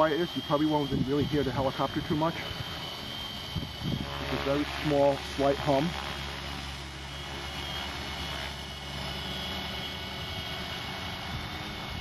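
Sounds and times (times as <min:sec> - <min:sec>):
electric helicopter motor hum: 0:00.0 - 0:12.0
faint high whine: 0:00.0 - 0:12.0.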